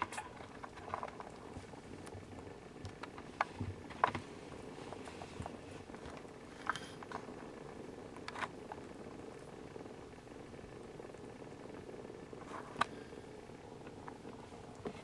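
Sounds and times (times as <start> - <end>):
cats purring: 0.0 - 15.0.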